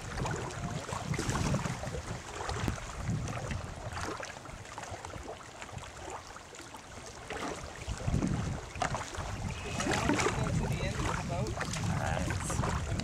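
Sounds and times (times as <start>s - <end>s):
paddle splashes: 0.0s - 13.0s
water lapping: 0.0s - 13.0s
wind rumbling on microphone: 0.0s - 13.0s.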